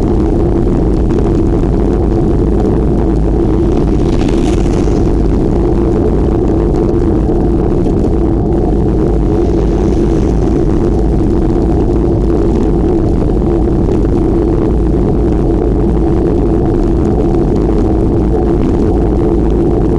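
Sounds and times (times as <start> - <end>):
bicycle rolling noise: 0.0 - 19.9
wind buffeting microphone: 0.0 - 19.9.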